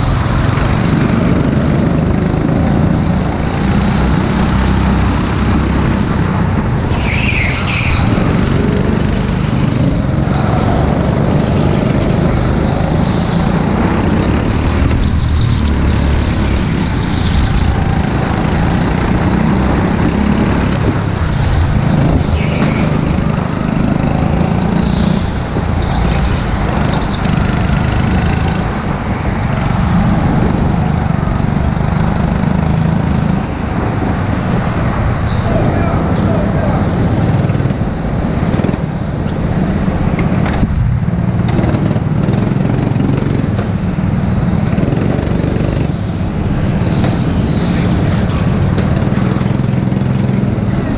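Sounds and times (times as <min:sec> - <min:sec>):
go-kart engine running hard: 0:00.0 - 0:50.9.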